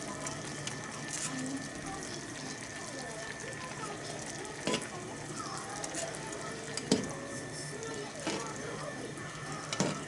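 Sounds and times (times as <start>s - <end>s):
pot sizzling: 0.0s - 10.0s.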